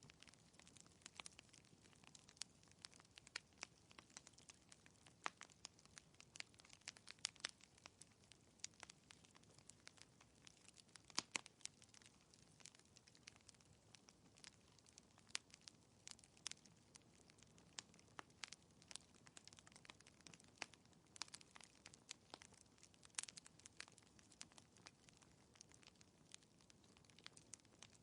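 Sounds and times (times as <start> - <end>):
logs crackling in fireplace: 0.0 - 28.0.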